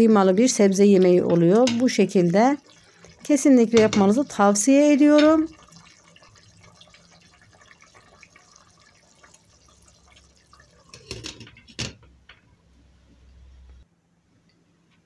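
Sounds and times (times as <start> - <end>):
stew bubbling: 0.0 - 13.5.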